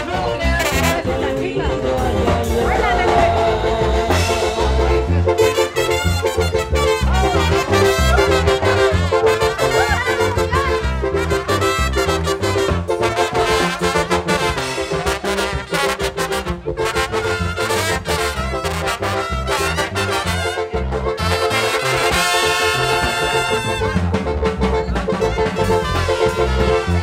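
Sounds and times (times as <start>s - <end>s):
brass band playing dance tune: 0.0s - 27.0s
pulsing bass beat: 0.0s - 27.0s.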